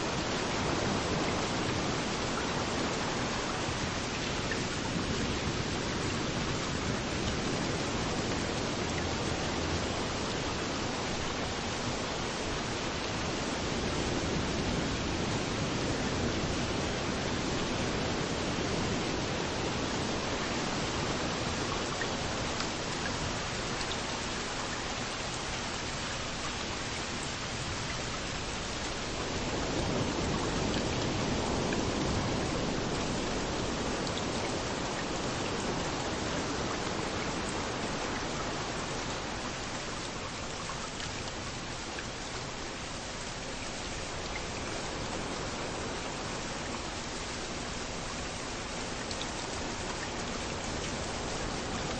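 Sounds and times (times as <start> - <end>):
rain hiss: 0.0 - 51.9
surf washing onto beach: 0.0 - 51.9.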